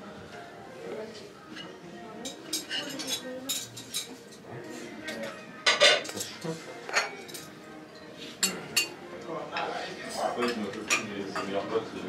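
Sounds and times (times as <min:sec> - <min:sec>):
murmur of voices: 0:00.0 - 0:12.0
cutlery and crockery clinking: 0:01.4 - 0:11.8.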